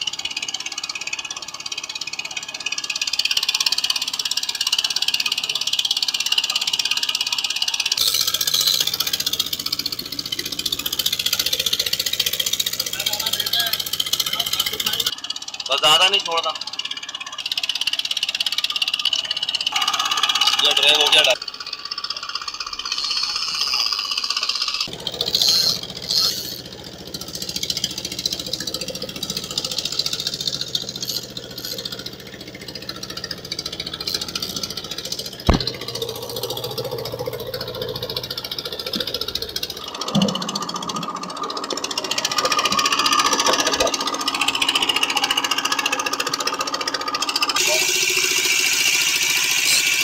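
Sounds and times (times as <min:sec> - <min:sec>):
boat engine running: 0:00.0 - 0:50.0.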